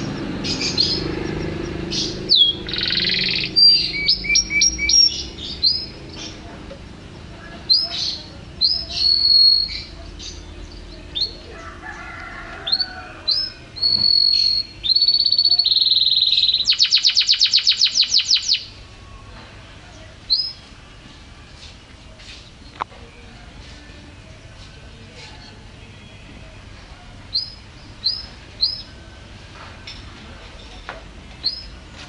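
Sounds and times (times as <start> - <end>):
canary singing: 0.0 - 30.8, 31.4 - 31.9.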